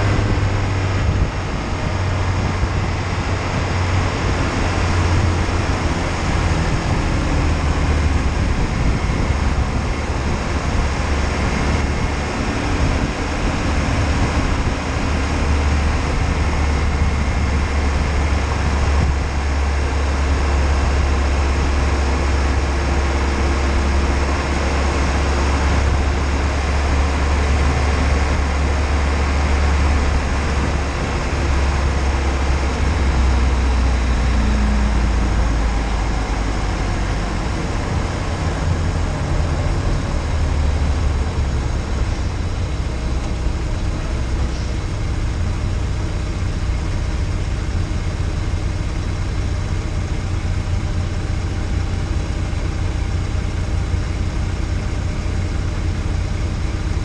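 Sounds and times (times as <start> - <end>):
car engine running: 0.0 - 57.0
wind rumble: 0.0 - 57.0.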